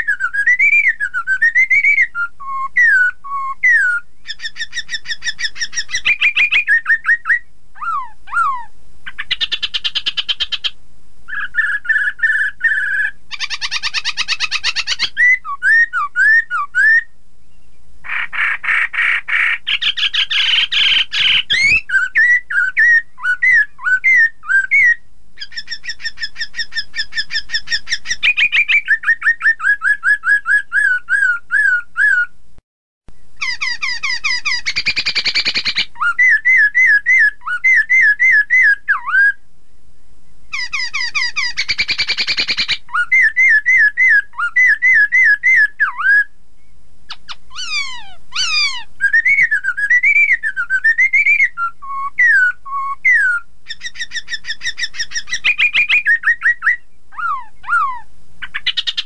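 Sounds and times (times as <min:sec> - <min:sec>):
bird singing whistled notes: 0:00.0 - 0:32.4, 0:33.1 - 0:39.4, 0:40.2 - 0:59.0.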